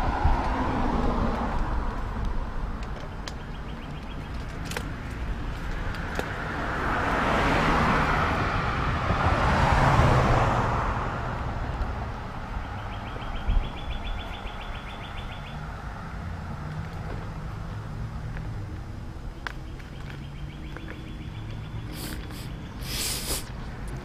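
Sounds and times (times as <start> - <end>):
car passing: 0.0 - 24.0.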